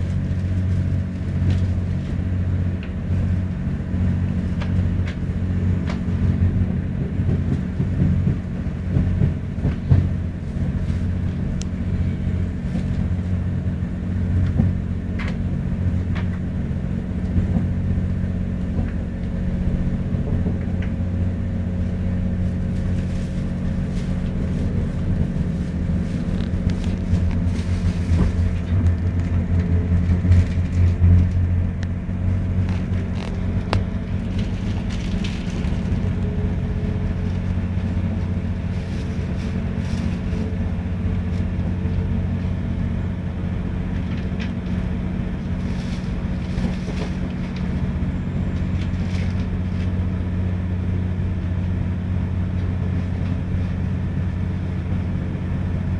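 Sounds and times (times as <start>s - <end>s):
train rumbling with engine hum: 0.0s - 55.9s.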